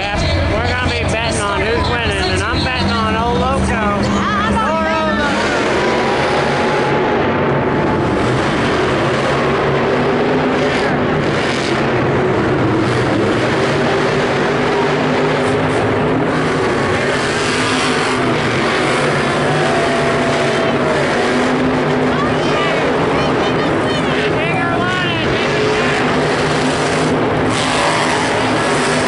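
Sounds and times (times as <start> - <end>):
loud truck engines running: 0.0 - 29.0.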